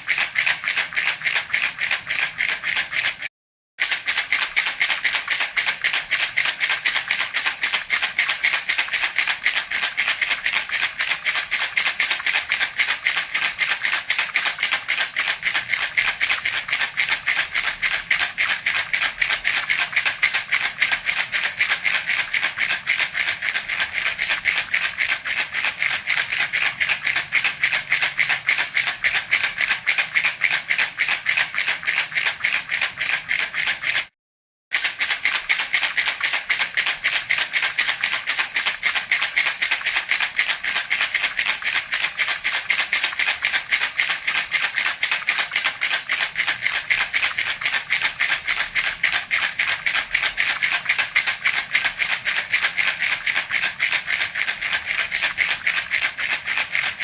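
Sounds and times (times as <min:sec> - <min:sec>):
baby rattle shaking: 0:00.0 - 0:34.1, 0:34.7 - 0:57.0.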